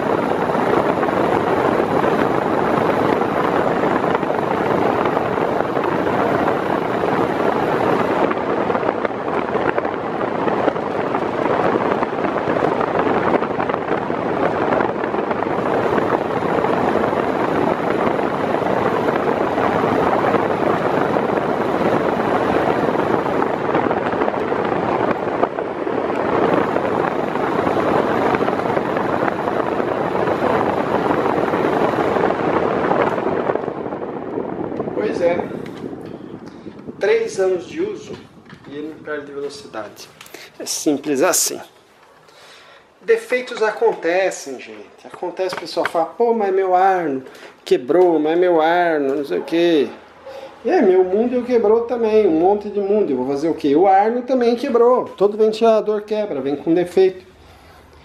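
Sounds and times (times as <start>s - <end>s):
floor fan blowing air: 0.0s - 58.0s.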